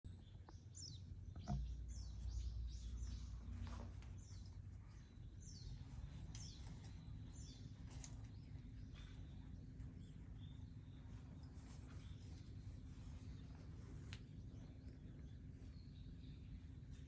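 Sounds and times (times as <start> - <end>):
small birds chirping: 0.0 - 17.0
low background rumble: 0.1 - 17.0.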